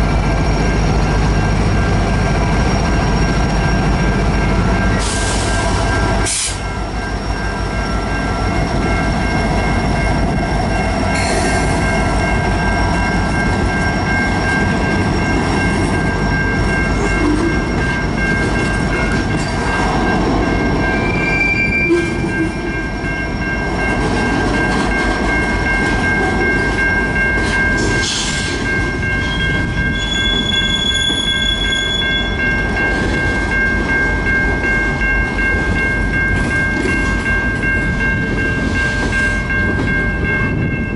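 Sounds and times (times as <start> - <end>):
train rumbling past: 0.0 - 40.9
wheels squealing on rails: 0.0 - 40.9.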